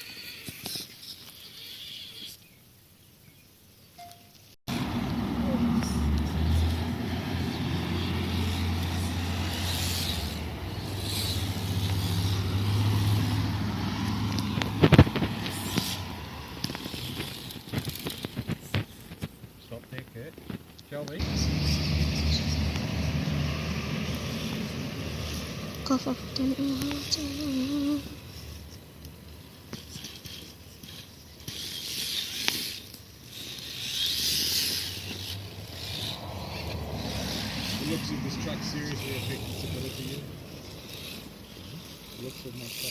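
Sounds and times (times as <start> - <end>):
motor humming: 4.7 - 19.1, 21.2 - 42.9.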